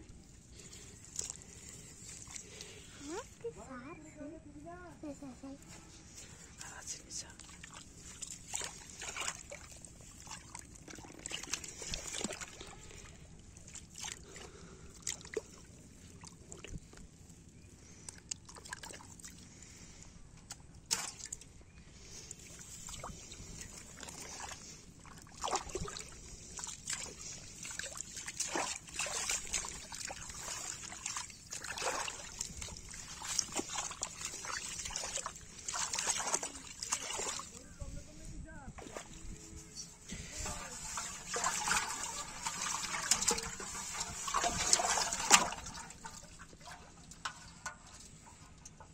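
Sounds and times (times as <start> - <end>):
mud sloshing and squelching: 0.2 - 3.4, 5.6 - 37.9, 38.7 - 39.4, 40.0 - 48.9.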